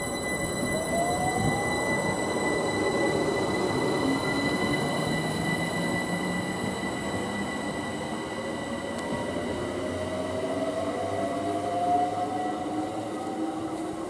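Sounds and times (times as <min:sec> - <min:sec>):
electric train wheels rumbling: 0:00.0 - 0:14.0
train high-pitched whine: 0:00.0 - 0:14.0.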